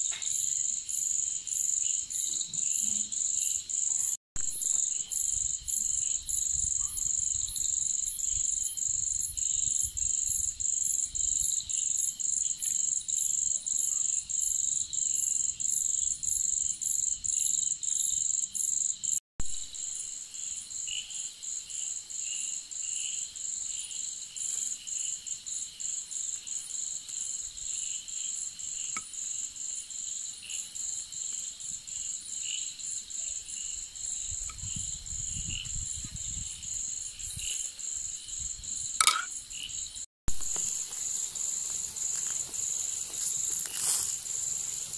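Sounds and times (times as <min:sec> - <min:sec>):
crickets trilling in chorus: 0:00.0 - 0:19.2, 0:19.8 - 0:44.9.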